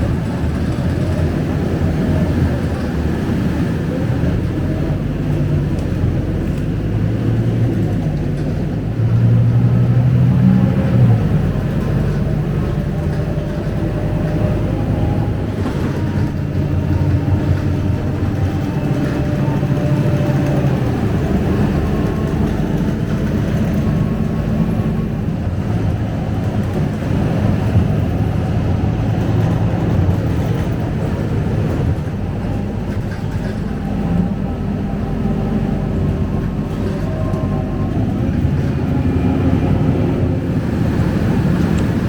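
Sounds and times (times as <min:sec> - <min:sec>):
bus diesel engine idling: 0:00.0 - 0:42.0.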